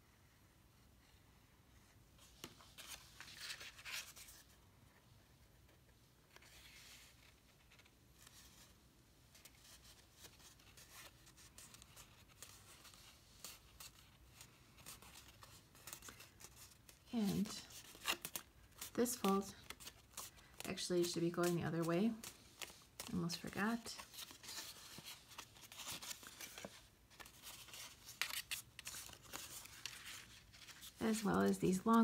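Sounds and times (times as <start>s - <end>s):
card paper rustling and scraping: 2.2s - 4.6s, 5.4s - 32.0s.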